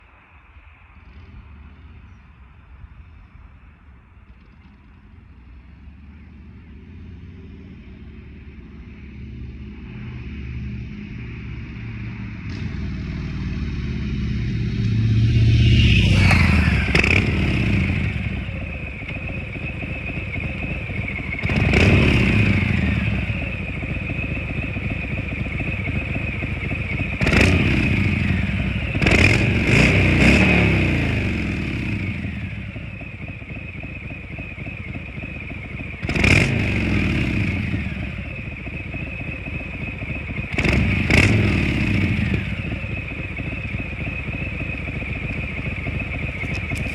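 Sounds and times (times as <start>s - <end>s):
motorcycle engine rumbling: 0.4s - 46.9s
motorcycle engine revving: 4.2s - 46.9s.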